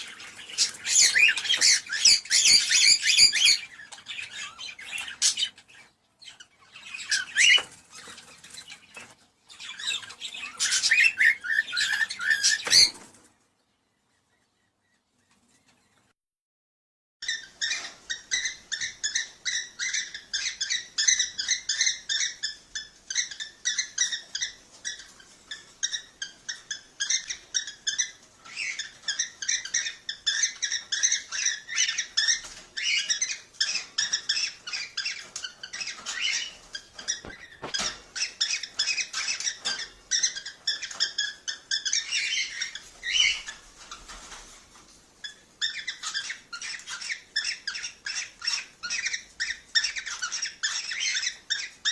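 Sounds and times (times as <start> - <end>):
cockatiels chirping: 0.0 - 13.2, 17.2 - 44.6, 45.2 - 51.9.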